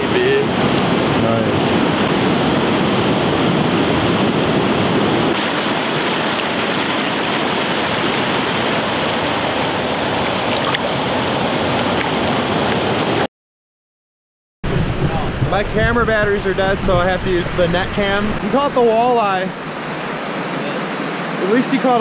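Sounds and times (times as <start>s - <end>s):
river water rushing: 0.0s - 13.2s, 16.9s - 22.0s.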